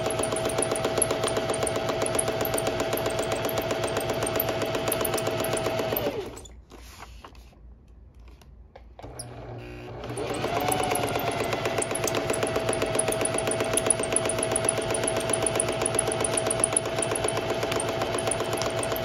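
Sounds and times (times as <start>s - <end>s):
sewing machine motor hum: 0.0s - 6.6s, 9.0s - 19.0s
sewing machine needle punching paper: 0.0s - 6.6s, 9.0s - 19.0s.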